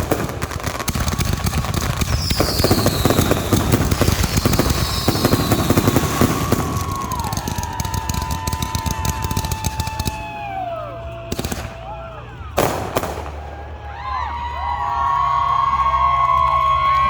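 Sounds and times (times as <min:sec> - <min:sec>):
firework crackle of small pops: 0:00.0 - 0:13.8
firework bangs: 0:00.0 - 0:14.3
whistling fireworks: 0:00.0 - 0:17.0.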